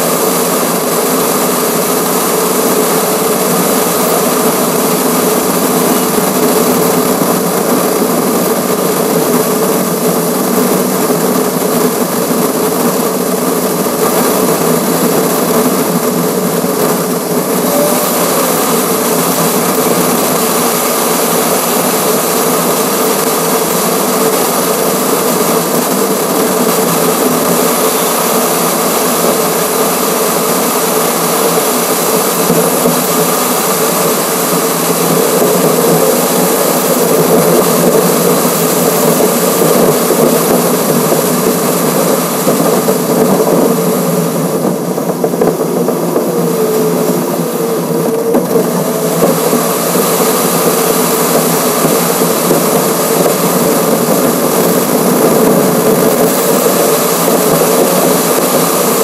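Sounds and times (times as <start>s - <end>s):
high even whirr of wind and road: 0.0s - 59.0s.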